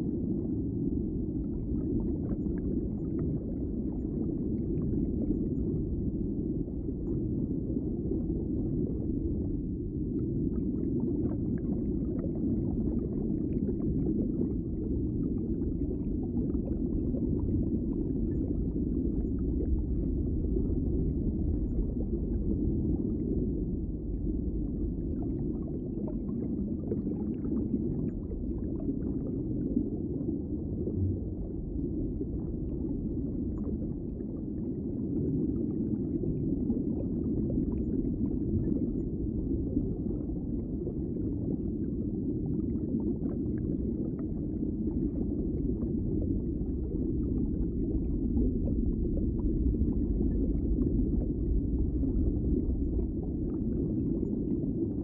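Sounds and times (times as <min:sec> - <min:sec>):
muffled underwater rush of water: 0:00.0 - 0:55.0.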